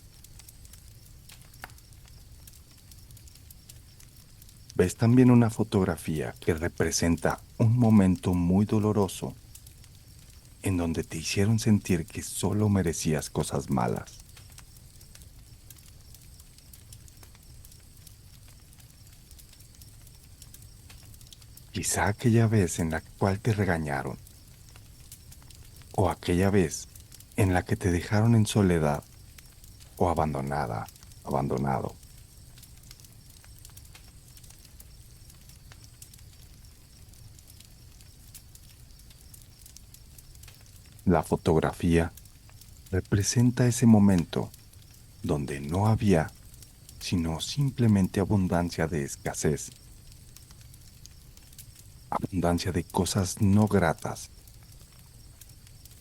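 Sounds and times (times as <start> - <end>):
campfire crackling: 0.0 - 56.0
crickets chirping: 0.0 - 56.0
fire pops: 0.0 - 56.0.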